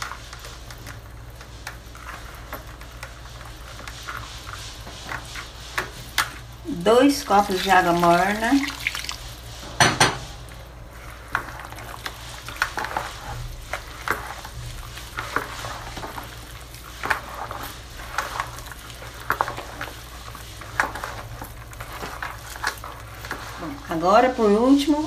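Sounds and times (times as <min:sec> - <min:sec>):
wooden spoon stirring wet dough: 0:00.0 - 0:25.0.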